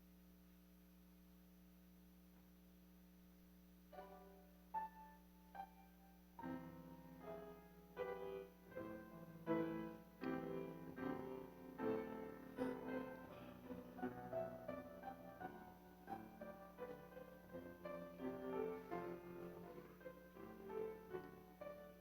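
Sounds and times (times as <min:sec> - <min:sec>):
low electrical hum: 0:00.0 - 0:22.0
piano playing a hymn: 0:04.0 - 0:22.0.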